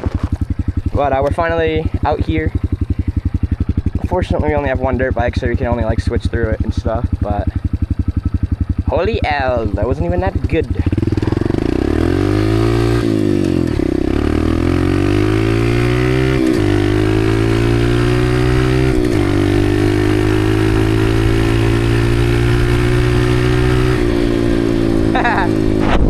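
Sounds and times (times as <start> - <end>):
dirt bike engine accelerating: 0.0 - 26.0.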